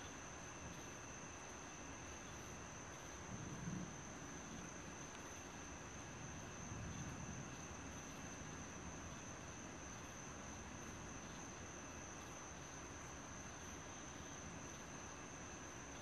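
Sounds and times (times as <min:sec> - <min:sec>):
faint background hiss: 0:00.0 - 0:16.0
night insects trilling: 0:00.0 - 0:16.0.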